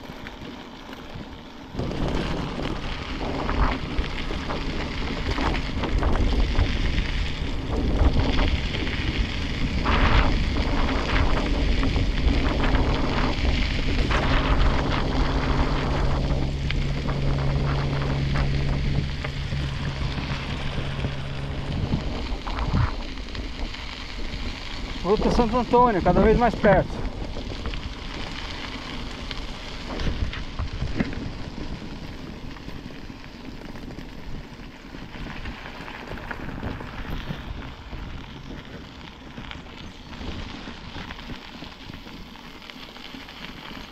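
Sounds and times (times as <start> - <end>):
bike tyres rolling on rough road: 0.0 - 43.9
crackles and small knocks: 0.0 - 43.9
steady low hum: 1.1 - 43.9
wind buffeting microphone: 1.2 - 43.9.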